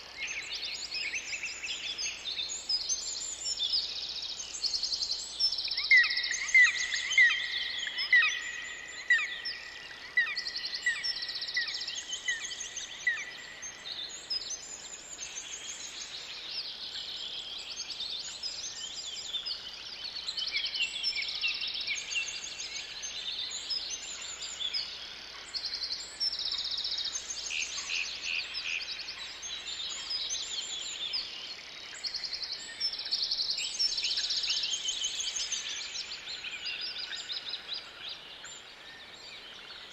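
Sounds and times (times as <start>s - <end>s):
bird chorus: 0.0s - 39.9s.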